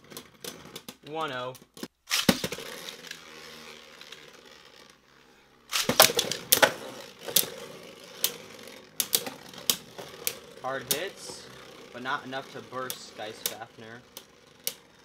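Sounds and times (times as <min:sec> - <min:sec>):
plastic tops clacking: 0:00.0 - 0:03.3, 0:05.7 - 0:15.0
spinning top whirring: 0:00.0 - 0:15.0.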